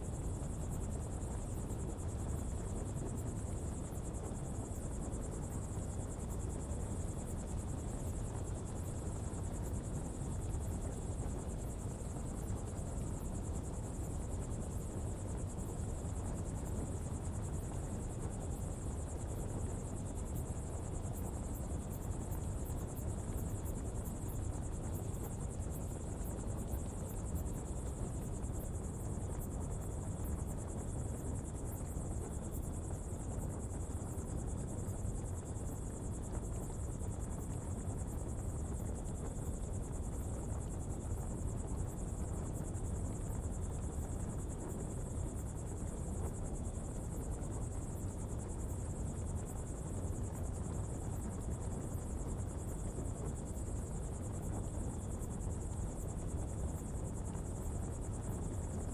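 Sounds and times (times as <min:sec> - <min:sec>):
insects chirring: 0:00.0 - 0:58.9.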